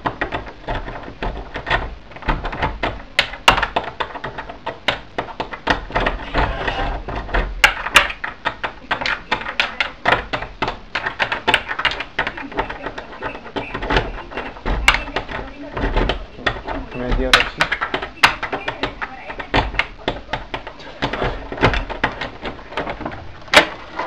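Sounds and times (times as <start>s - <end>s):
doorknob rattling: 0.0s - 24.0s.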